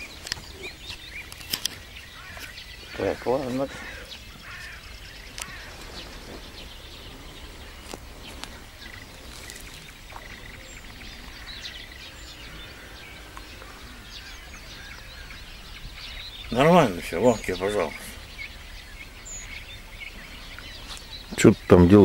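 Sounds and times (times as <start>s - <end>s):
birds chirping and singing: 0.0s - 22.0s
steady low rumble: 3.9s - 21.7s.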